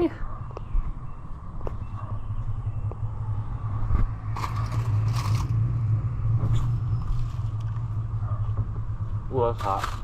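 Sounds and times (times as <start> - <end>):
steady low hum: 0.1 - 9.6.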